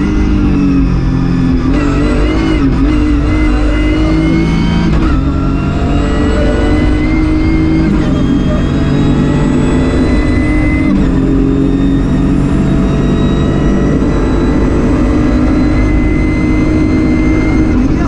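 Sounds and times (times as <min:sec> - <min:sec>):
car engine running hard: 0:00.0 - 0:18.0
road and tyre noise: 0:00.0 - 0:18.0.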